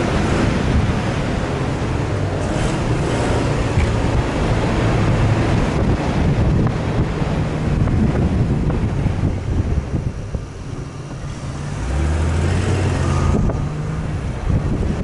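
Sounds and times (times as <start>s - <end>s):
off-road vehicle engine running: 0.0s - 15.0s
wind buffeting microphone: 0.0s - 15.0s.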